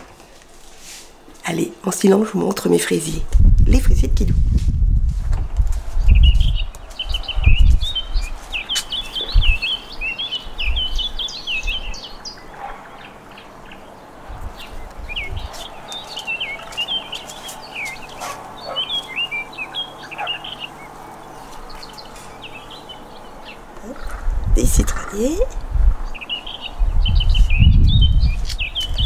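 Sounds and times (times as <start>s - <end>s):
small songbirds chirping: 5.6s - 29.0s.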